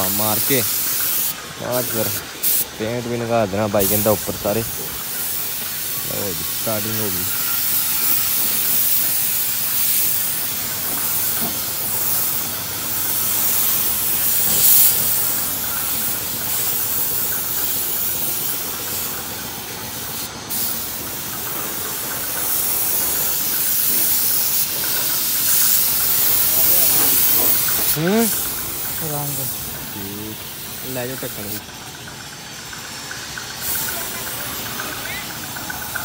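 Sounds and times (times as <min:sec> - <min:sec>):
paint spray gun hissing: 0:00.0 - 0:36.0.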